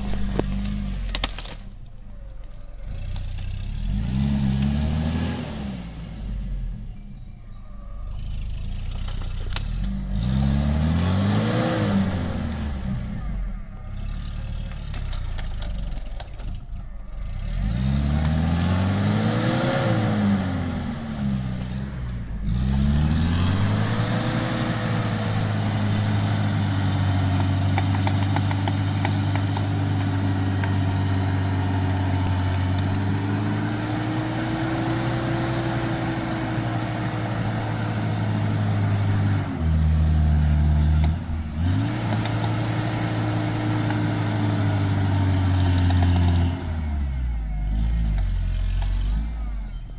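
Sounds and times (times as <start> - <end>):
engine revving under load: 0.0 - 49.9.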